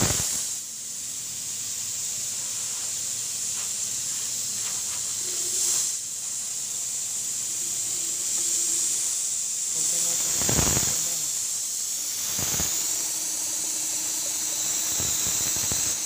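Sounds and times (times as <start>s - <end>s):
fluid extractor hissing: 0.0s - 16.0s.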